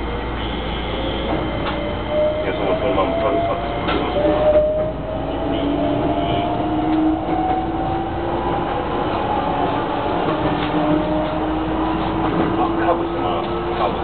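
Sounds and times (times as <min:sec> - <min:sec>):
train wheels running on rails: 0:00.0 - 0:14.0.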